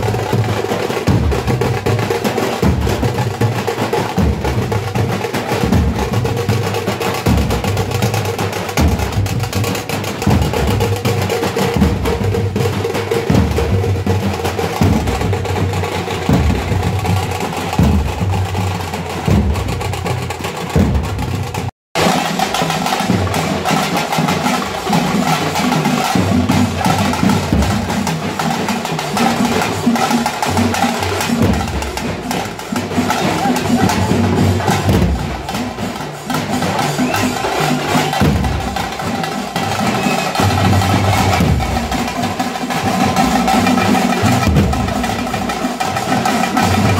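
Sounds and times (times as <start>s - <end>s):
frame drums played with sticks: 0.0s - 46.9s.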